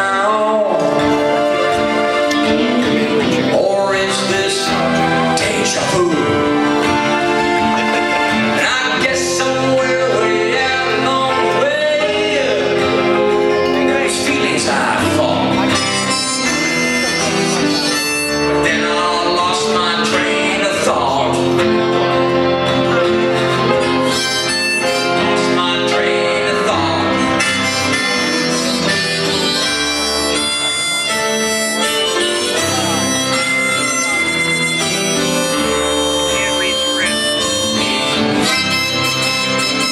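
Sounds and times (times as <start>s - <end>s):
acoustic guitar: 0.0s - 39.9s
harmonica bending notes: 0.0s - 39.9s.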